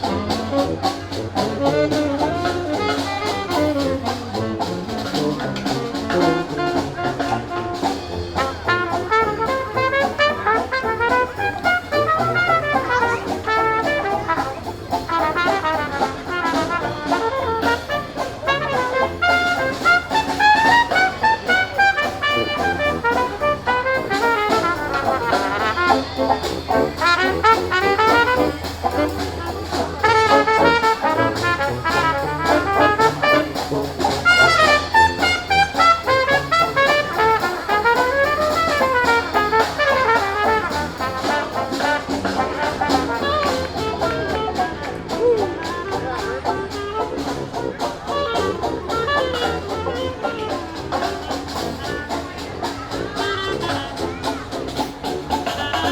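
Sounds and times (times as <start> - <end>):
brass band playing: 0.0 - 55.9.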